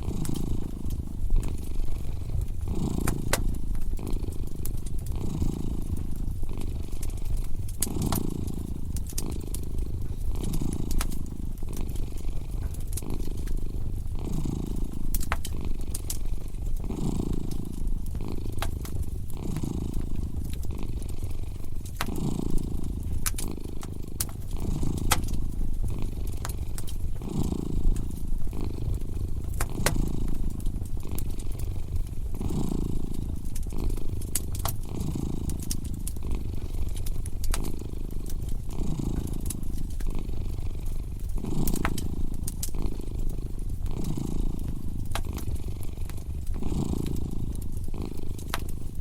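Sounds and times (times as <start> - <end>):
cat purring: 0.0 - 49.0
wood fire crackling: 0.0 - 49.0.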